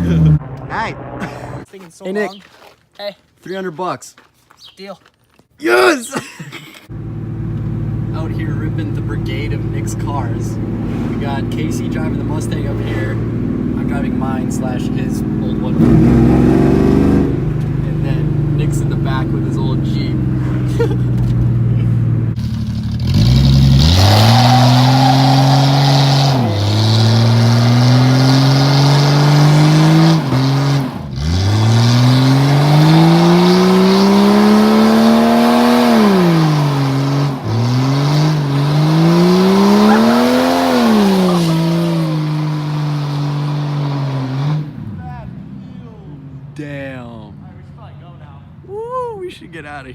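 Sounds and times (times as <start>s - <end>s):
car engine accelerating: 0.0s - 1.7s, 6.9s - 45.7s.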